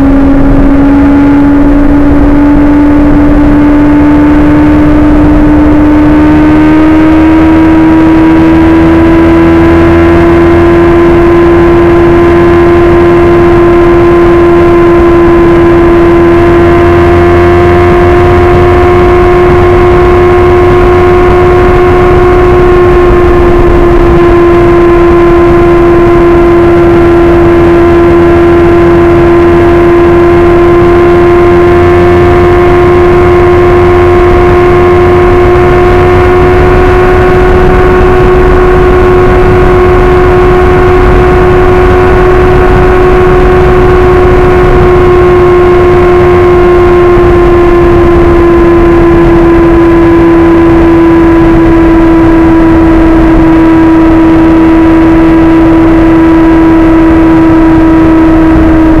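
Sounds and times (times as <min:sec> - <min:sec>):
motorcycle engine at steady revs: 0:00.0 - 0:59.0
wind and road noise: 0:00.0 - 0:59.0.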